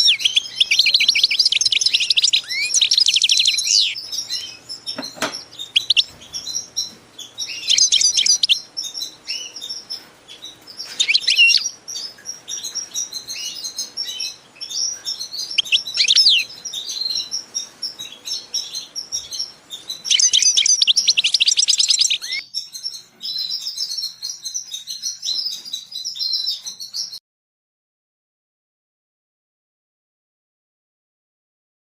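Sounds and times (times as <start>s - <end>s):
rapid trilled birdsong: 0.0s - 27.2s
songbirds chirping and singing: 0.0s - 27.2s.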